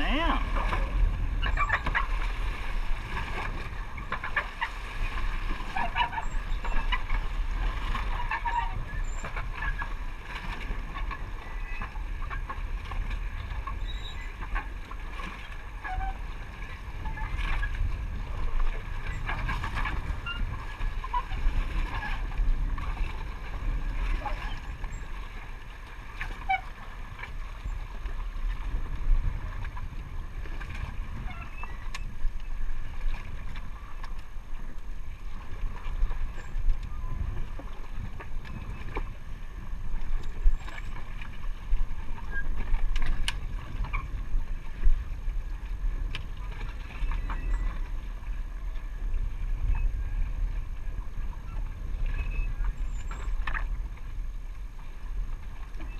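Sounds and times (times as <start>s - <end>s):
water splashes: 0.0s - 55.9s
wind and water rumble: 0.0s - 55.9s.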